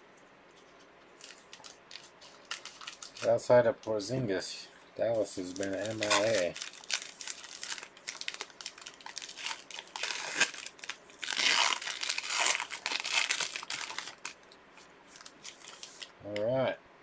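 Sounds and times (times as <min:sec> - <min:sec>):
plastic wrapping crinkling and tearing: 0:01.2 - 0:04.0, 0:05.2 - 0:16.1.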